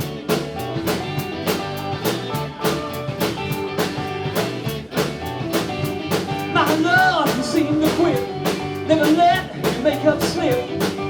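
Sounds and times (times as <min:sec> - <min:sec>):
drum kit beat: 0:00.0 - 0:11.0
electric guitar: 0:00.0 - 0:11.0.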